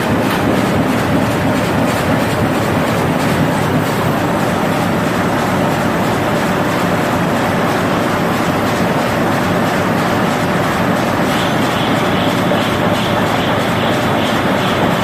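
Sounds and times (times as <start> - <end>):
industrial machine running: 0.0 - 15.0.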